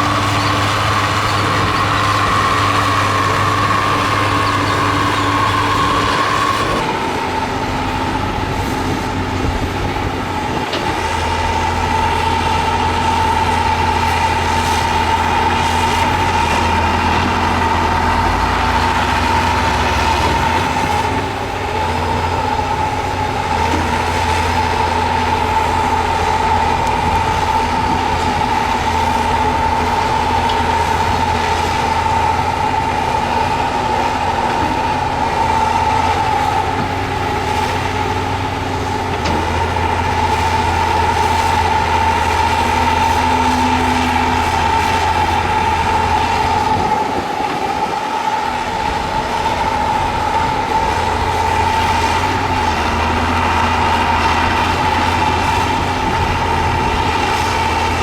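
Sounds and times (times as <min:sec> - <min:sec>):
constant high whine: 0:00.0 - 0:58.0
diesel engine rumbling: 0:00.0 - 0:58.0.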